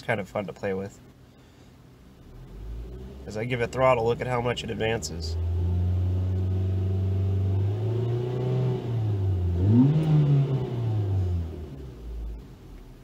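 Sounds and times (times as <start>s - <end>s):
car engine revving: 2.2s - 13.0s.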